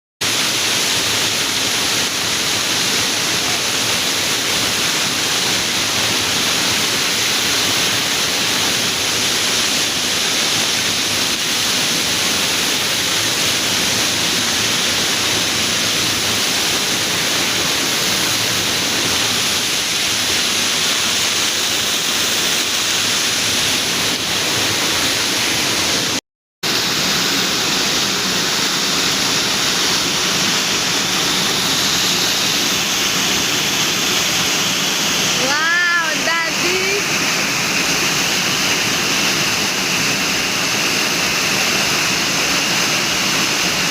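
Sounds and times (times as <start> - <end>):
waterfall rushing: 0.2 - 43.9.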